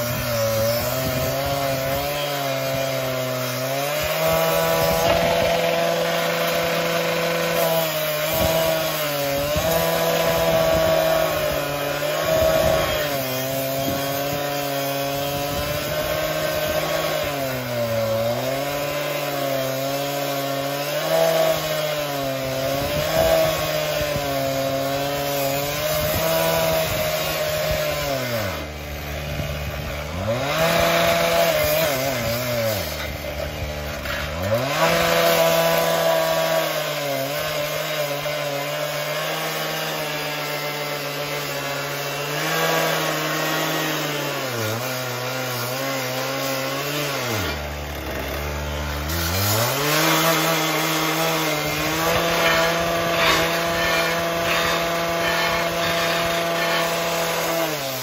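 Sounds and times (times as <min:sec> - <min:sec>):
cut-off saw cutting steel: 0:00.0 - 0:58.0.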